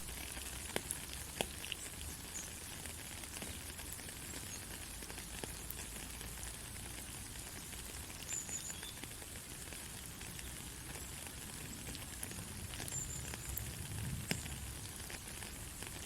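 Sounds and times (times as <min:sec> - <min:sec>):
light rain hissing: 0:00.0 - 0:16.0
raindrops pattering on surfaces: 0:00.0 - 0:16.0.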